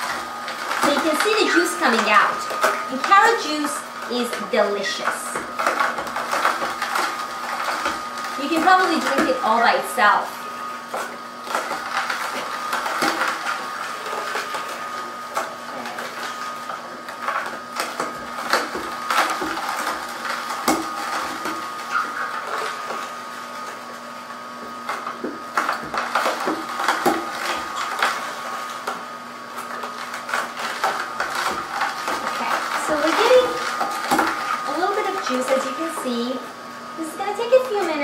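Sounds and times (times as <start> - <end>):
juicer motor humming: 0.0 - 38.0.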